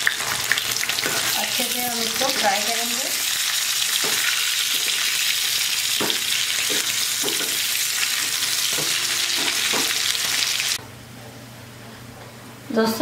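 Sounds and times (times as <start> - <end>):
potatoes frying in oil: 0.0 - 10.8.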